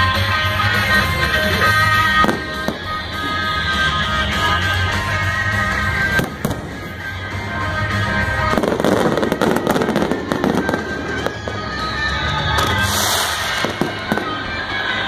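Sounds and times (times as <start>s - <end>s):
music playing: 0.0s - 15.0s
firework bangs: 0.8s - 15.0s.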